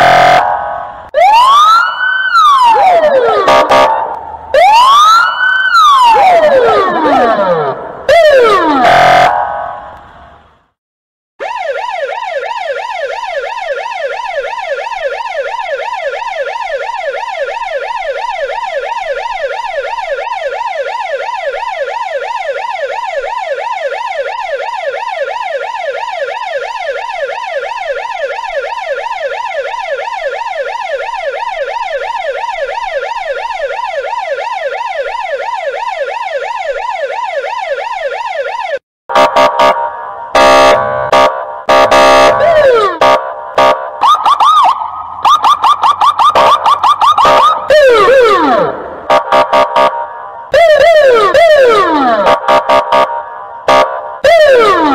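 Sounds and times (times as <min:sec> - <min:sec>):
police siren yelping: 0:00.0 - 0:09.8, 0:11.4 - 0:49.9, 0:50.5 - 0:54.9
siren short choppy blasts: 0:00.0 - 0:10.0, 0:11.4 - 0:54.9.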